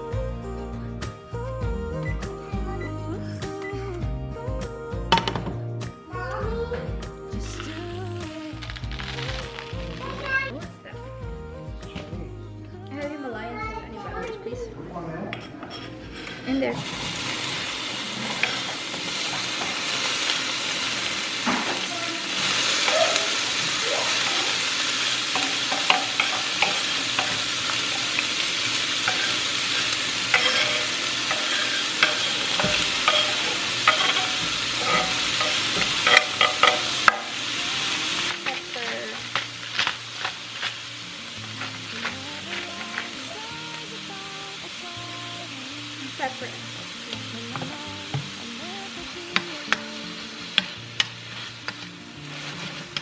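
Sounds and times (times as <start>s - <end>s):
peppers sizzling in a skillet: 3.4s - 14.6s, 15.7s - 53.0s.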